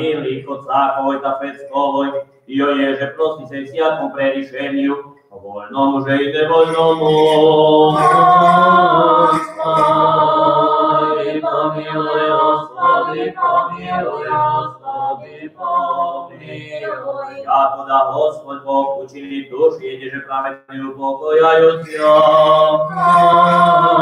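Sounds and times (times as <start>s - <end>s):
unaccompanied liturgical chant: 0.0s - 24.0s.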